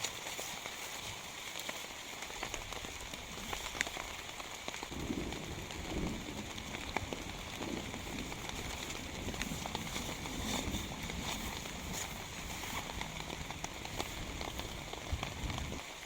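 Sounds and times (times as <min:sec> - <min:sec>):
heavy rain: 0:00.0 - 0:16.0
raindrops ticking on surface: 0:00.0 - 0:16.0.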